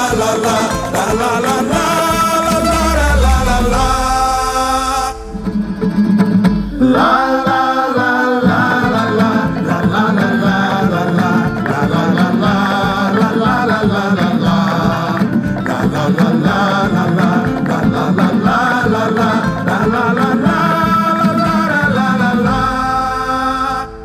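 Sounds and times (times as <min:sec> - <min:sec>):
person singing: 0:00.0 - 0:24.0
plucked guitar: 0:00.0 - 0:24.0.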